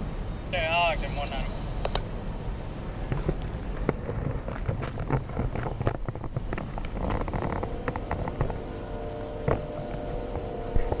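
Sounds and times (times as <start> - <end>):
wind rumble on microphone: 1.6 - 11.0.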